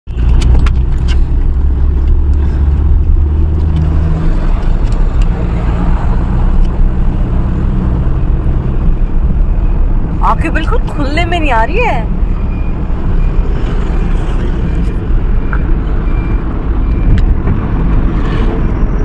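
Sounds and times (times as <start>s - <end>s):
car road noise: 0.1s - 19.0s.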